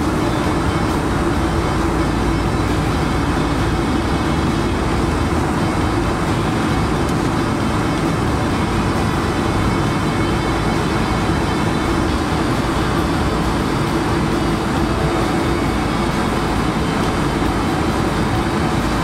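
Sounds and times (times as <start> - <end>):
aircraft engine hum: 0.0 - 19.0
faint high whine: 0.0 - 19.0.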